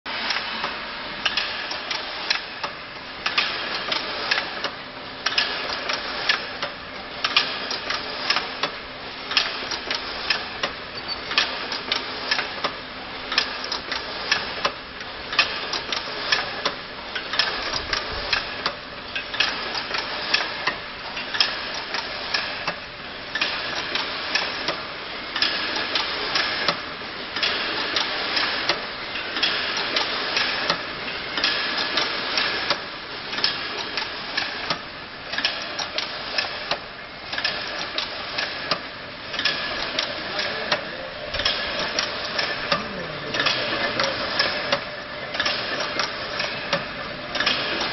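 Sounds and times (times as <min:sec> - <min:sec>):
wire mesh weaving machine: 0:00.1 - 0:47.9.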